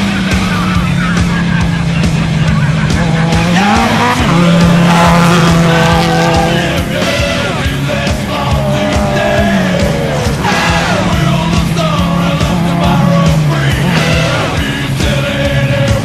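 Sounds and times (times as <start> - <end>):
race engine revving: 0.0 - 16.0
rock music: 0.0 - 16.0.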